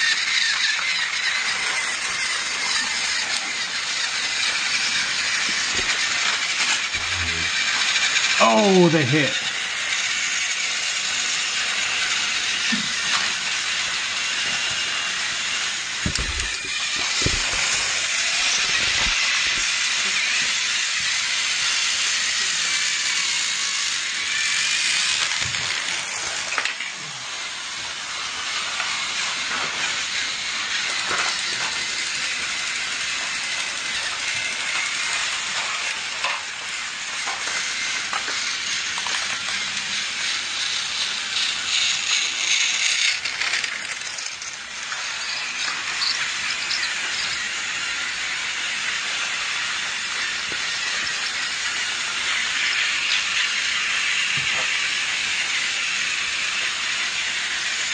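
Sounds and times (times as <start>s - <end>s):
toy train whirring rattle: 0.0s - 57.9s.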